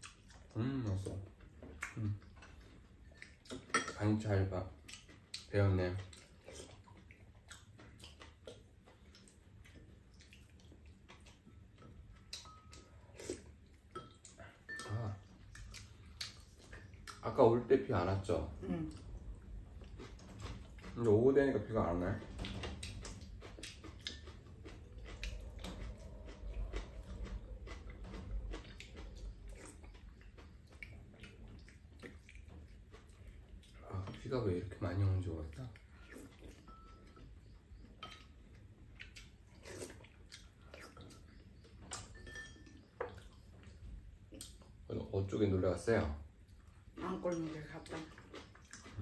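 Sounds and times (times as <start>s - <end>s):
people chewing: 0.0s - 3.9s, 4.6s - 49.0s.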